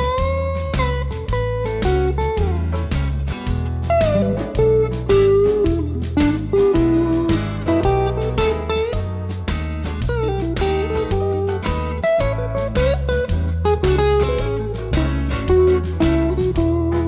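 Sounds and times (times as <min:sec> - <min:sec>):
blues backing track with bass and drums: 0:00.0 - 0:17.0
electric guitar blues lead: 0:00.0 - 0:17.0.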